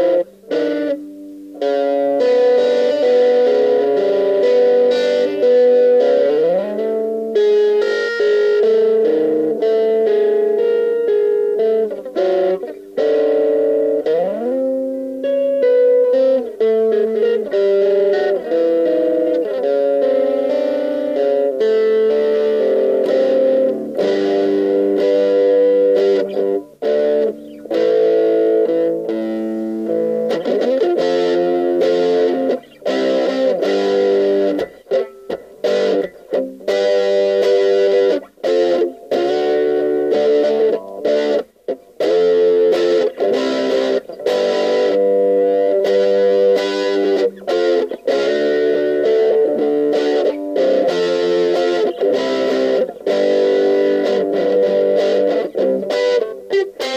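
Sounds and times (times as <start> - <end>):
overdriven electric guitar riffs: 0.0 - 56.9.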